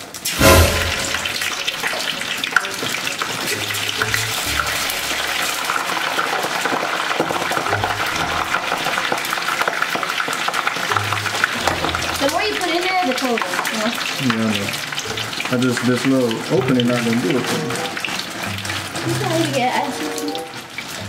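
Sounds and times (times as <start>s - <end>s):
fries poured into pot: 0.0s - 21.0s
fries sizzling in hot oil: 0.0s - 21.0s.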